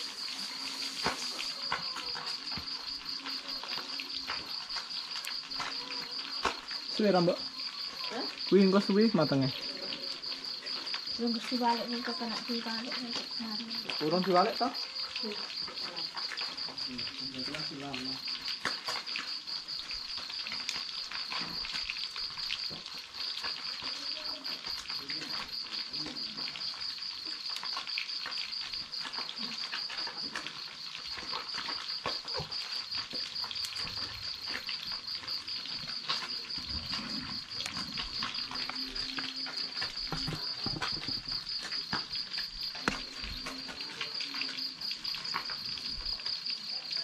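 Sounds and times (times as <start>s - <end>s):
fish sizzling in oil: 0.0s - 47.0s
night insects chirping: 0.0s - 47.0s.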